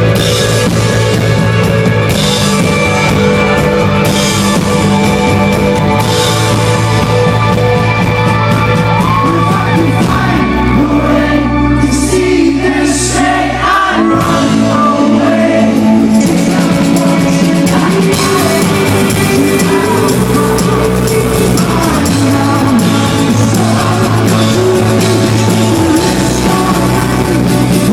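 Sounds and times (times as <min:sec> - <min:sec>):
lead vocal singing: 0:00.0 - 0:27.9
rock band playing live: 0:00.0 - 0:27.9.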